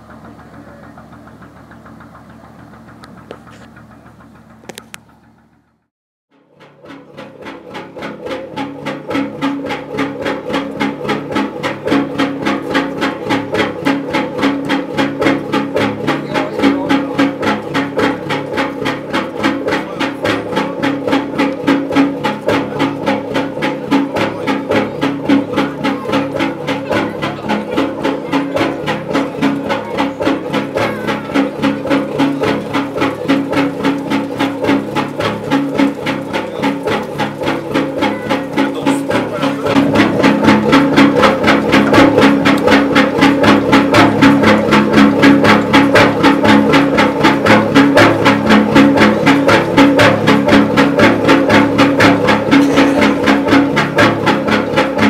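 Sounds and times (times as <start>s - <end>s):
boat engine knocking beat: 0.0s - 55.0s
constant engine hum: 0.0s - 55.0s.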